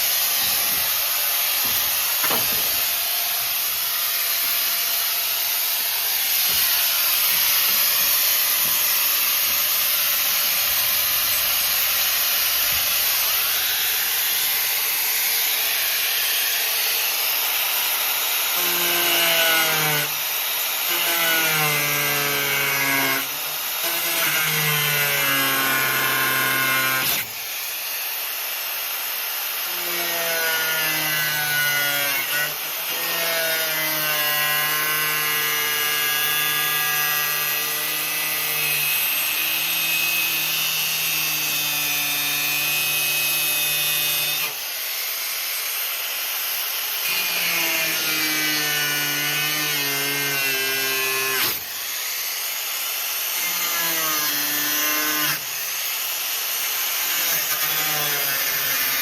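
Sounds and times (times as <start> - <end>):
power tool motor on steel: 0.0 - 59.0.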